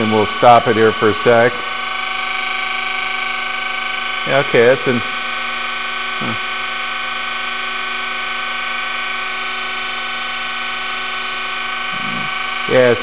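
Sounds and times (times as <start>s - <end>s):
surface grinder machine whine: 0.0s - 13.0s.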